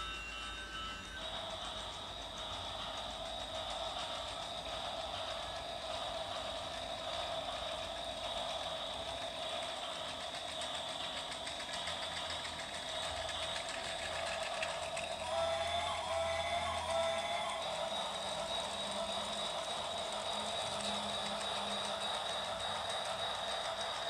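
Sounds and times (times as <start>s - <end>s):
toy train motor whirring: 0.0s - 24.0s.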